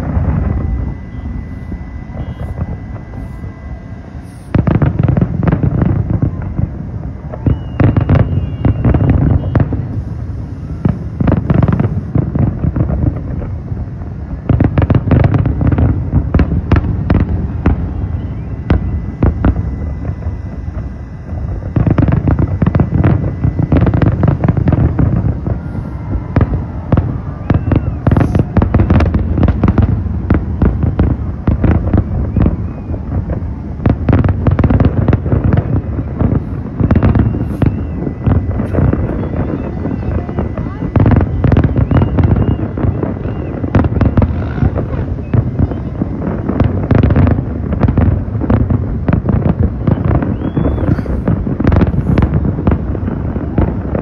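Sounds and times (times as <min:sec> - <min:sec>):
fireworks bangs and crackle: 0:00.0 - 0:54.0.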